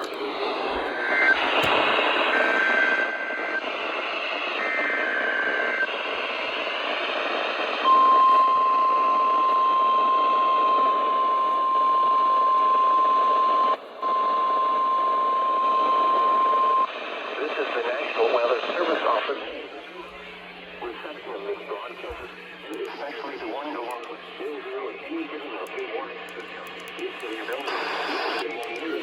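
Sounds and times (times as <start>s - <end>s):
radio static: 0.0s - 29.0s.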